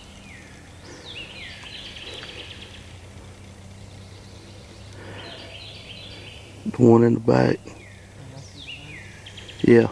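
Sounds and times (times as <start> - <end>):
low hum: 0.0 - 9.9
outdoor hiss: 0.0 - 9.9.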